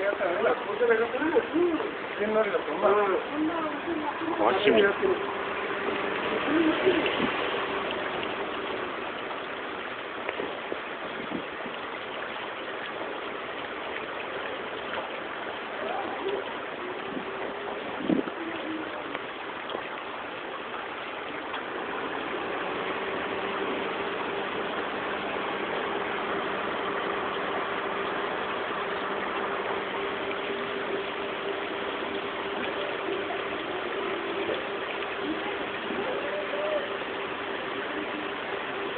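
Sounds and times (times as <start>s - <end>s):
faint steady hum: 0.0s - 38.9s
spring water gushing: 0.0s - 38.9s.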